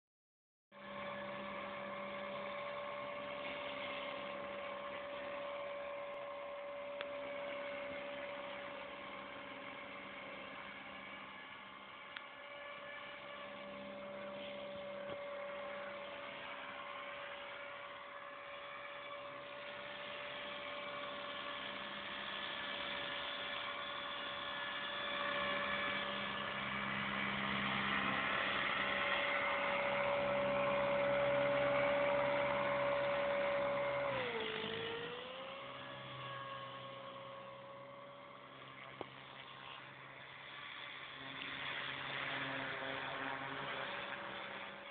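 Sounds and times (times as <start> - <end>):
rc helicopter motor whine: 0.7 - 44.9.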